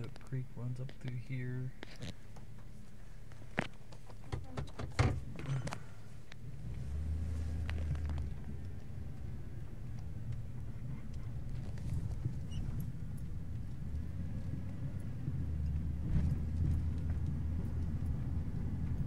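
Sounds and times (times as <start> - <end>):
vehicle engine and tyres rumbling: 0.0 - 19.0.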